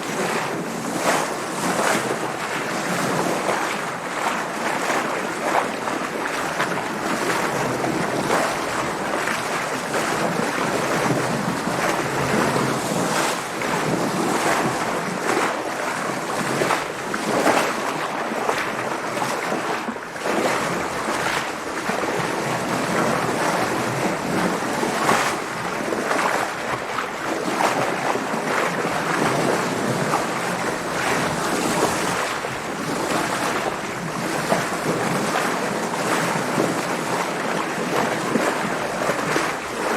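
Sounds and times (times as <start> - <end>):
waves splashing against boat hull: 0.0 - 39.9.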